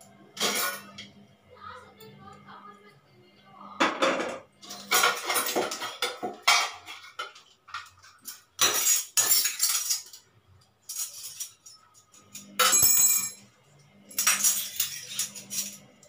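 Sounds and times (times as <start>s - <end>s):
metal pots clanking and scraping: 0.3s - 1.1s, 3.8s - 16.0s.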